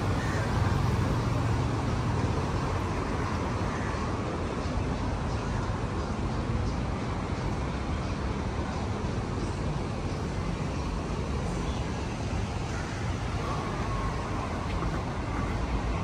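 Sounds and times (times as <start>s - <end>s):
passing cars rumbling: 0.0s - 16.0s.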